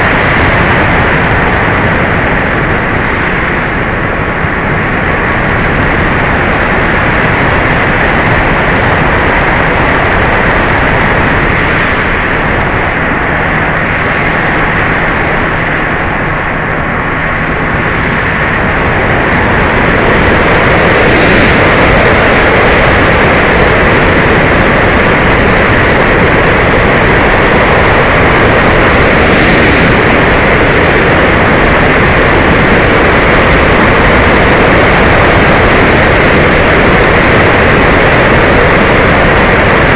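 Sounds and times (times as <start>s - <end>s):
model plane motor and propeller: 0.0s - 39.9s
wind: 0.0s - 39.9s.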